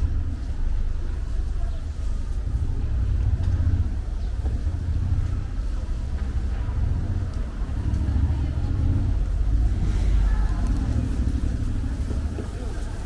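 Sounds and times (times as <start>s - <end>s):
faint voices: 0.0s - 13.0s
low outdoor ambient rumble: 0.0s - 13.0s.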